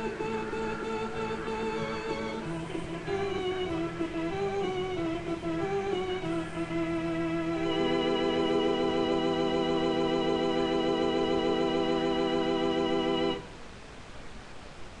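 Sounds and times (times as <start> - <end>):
electric organ chord with vibrato: 0.0 - 13.5.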